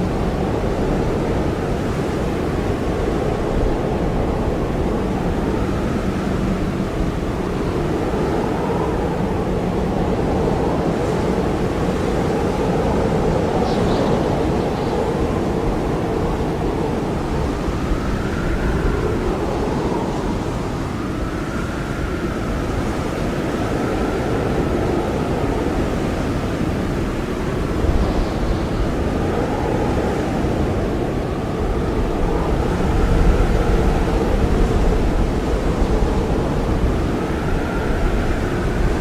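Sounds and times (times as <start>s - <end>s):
blizzard wind blowing hard: 0.0s - 39.0s.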